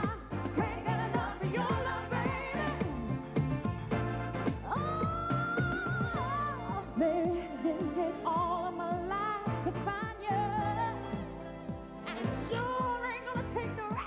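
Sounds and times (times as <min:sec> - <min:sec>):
woman singing: 0:00.0 - 0:03.2, 0:04.5 - 0:14.0
pop-soul band with drums: 0:00.0 - 0:14.0.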